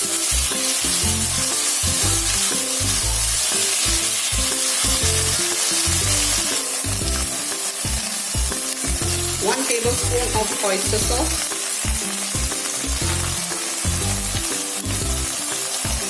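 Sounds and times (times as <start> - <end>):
background music with bass notes: 0.0 - 16.0
food sizzling in a wok: 0.0 - 16.0.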